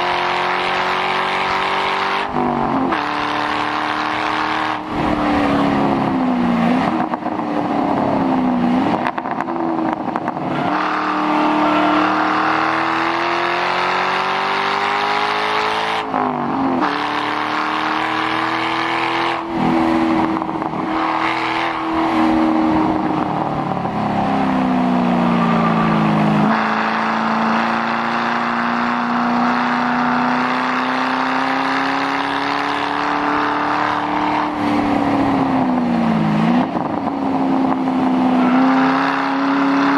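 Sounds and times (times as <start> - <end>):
car engine under hard driving: 0.0 - 39.9.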